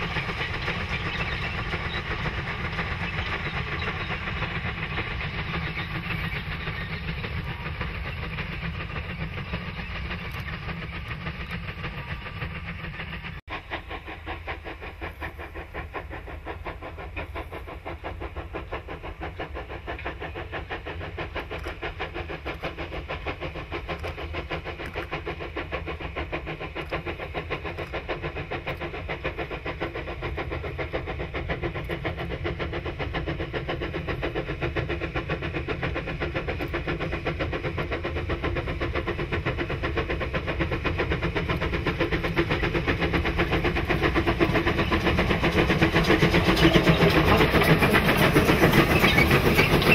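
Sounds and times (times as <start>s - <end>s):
steam locomotive exhaust beating: 0.0s - 49.9s.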